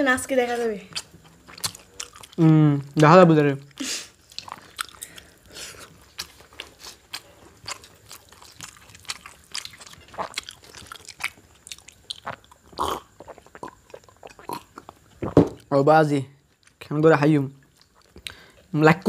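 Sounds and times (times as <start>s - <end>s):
chewing and mouth smacks: 0.5s - 15.4s, 17.6s - 18.7s.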